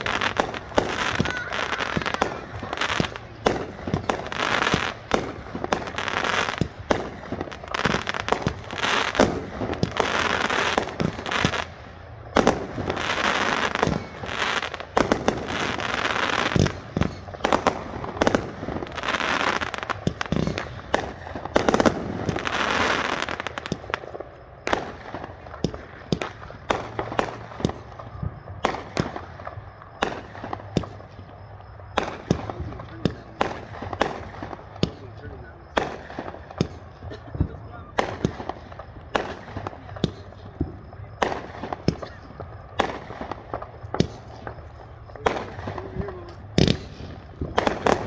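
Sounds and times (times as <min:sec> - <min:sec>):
firework crackling: 0:00.0 - 0:48.0.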